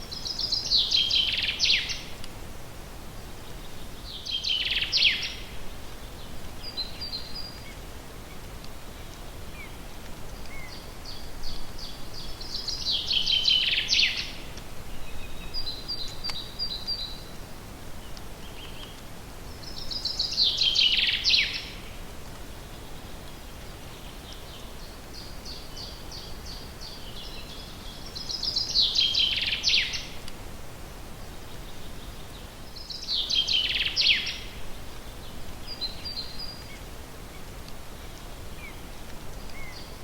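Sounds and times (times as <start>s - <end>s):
steady background hiss: 0.0s - 40.0s.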